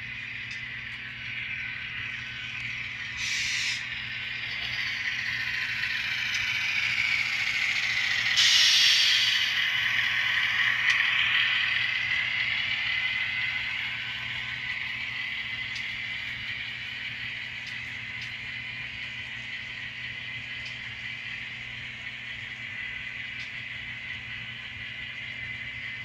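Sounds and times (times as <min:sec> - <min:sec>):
model train whirring on track: 0:00.0 - 0:26.0.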